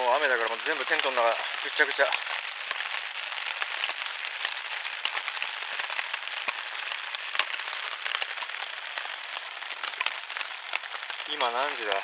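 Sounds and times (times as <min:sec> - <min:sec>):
heavy rain on a tent: 0:00.0 - 0:12.0
sharp raindrop hits: 0:00.0 - 0:12.0.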